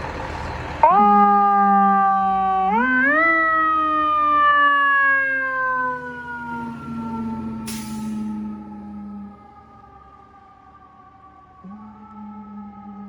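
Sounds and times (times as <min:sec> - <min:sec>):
fire truck siren wailing: 0:00.0 - 0:13.0.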